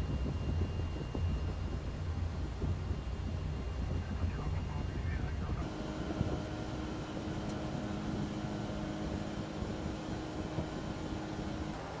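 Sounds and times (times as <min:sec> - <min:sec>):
aircraft cockpit rushing hum: 0:00.0 - 0:12.0
faint steady tones: 0:00.0 - 0:12.0.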